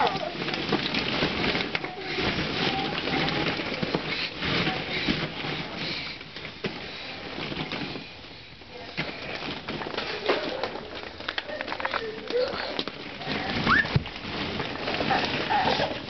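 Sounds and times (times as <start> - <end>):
plastic balls clattering: 0.0 - 16.0.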